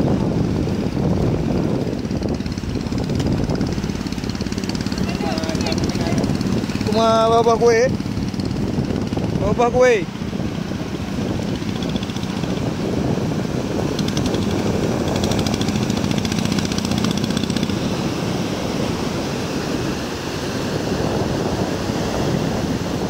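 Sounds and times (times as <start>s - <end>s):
faint engine hum: 0.0s - 23.0s
surf breaking over shallows: 0.0s - 23.0s
wind buffeting microphone: 0.0s - 23.0s.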